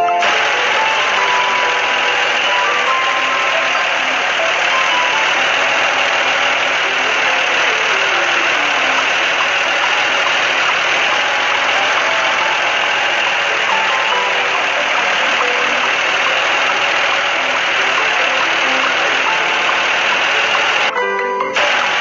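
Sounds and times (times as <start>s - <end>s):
construction vehicle engine drone: 0.0s - 20.9s, 21.6s - 22.0s
faint melodic music notes: 0.0s - 22.0s.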